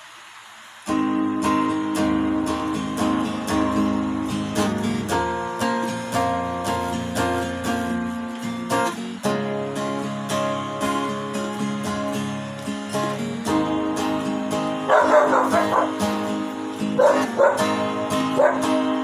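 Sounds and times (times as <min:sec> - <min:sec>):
acoustic guitar strumming: 0:00.8 - 0:19.0.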